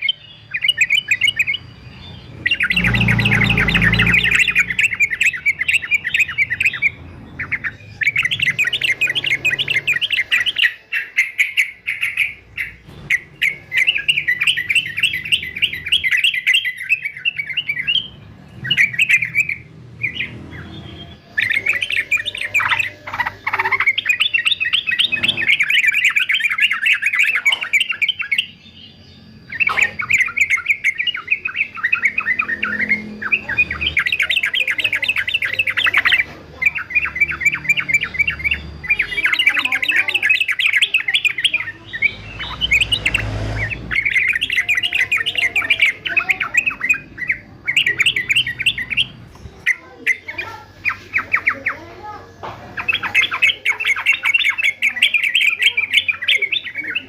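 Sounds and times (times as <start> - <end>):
bulbul chattering song: 0.0 - 57.0.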